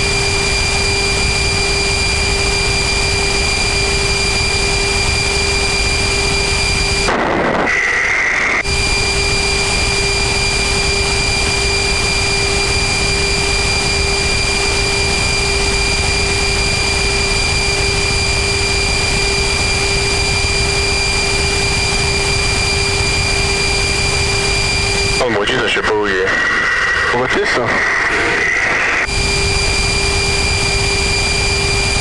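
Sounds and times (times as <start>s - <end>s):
constant low hum: 0.0s - 32.0s
high unchanging whines: 0.0s - 32.0s
rushing roar of air and engine: 0.0s - 32.0s.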